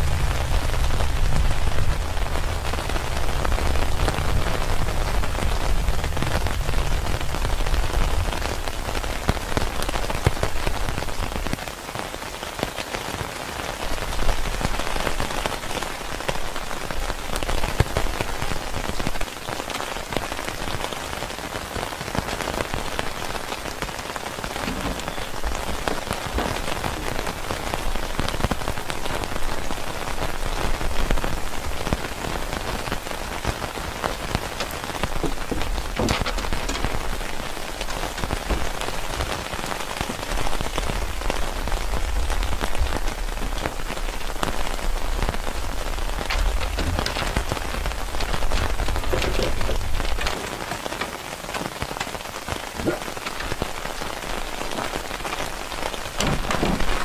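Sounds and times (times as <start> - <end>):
raindrops ticking: 0.0 - 57.0
steady rain: 0.0 - 57.0.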